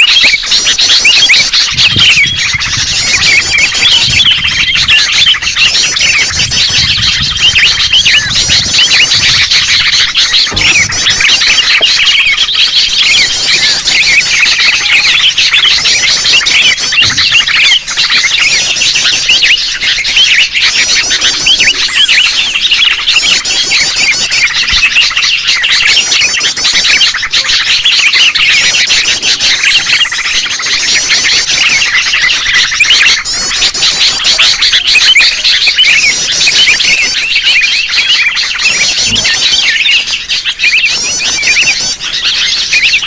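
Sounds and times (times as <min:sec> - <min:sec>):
bulbuls chattering and calling: 0:00.0 - 0:43.0.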